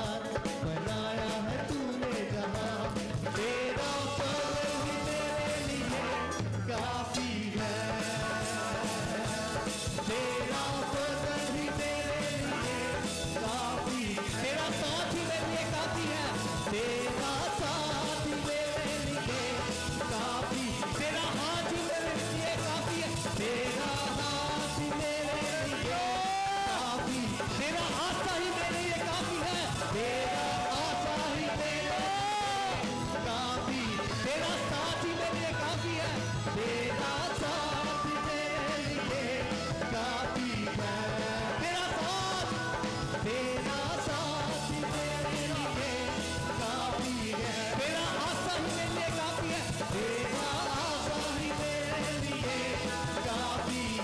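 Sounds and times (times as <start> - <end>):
band backing music: 0.0 - 54.0
dhol drum beating: 0.0 - 54.0
men singing into microphones: 0.0 - 54.0.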